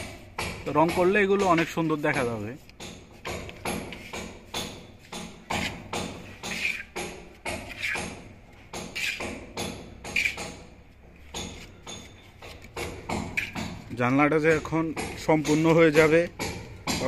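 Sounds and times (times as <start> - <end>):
hand tool chipping tiles: 0.0 - 17.0.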